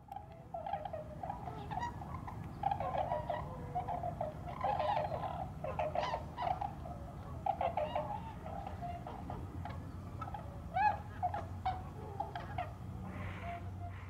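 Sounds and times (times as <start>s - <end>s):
swans hooting: 0.0s - 14.0s.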